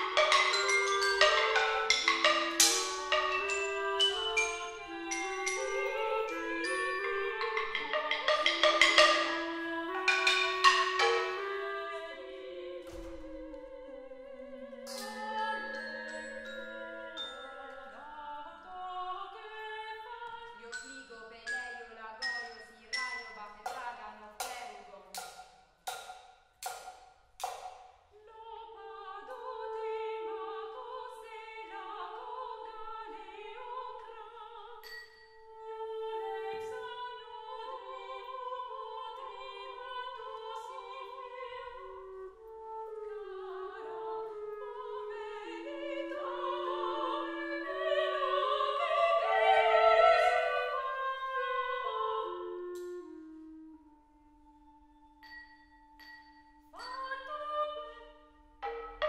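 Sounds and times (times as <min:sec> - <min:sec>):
clarinet: 0:00.0 - 0:20.6, 0:28.8 - 0:33.8, 0:35.5 - 0:59.0
sopranos singing: 0:00.0 - 0:24.9, 0:28.2 - 0:53.7.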